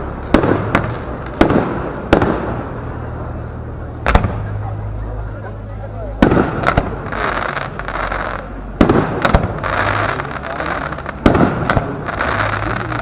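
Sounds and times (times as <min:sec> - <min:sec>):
firework shells bursting: 0:00.0 - 0:03.4, 0:04.0 - 0:04.6, 0:06.2 - 0:13.0
firework crackling: 0:00.0 - 0:13.0.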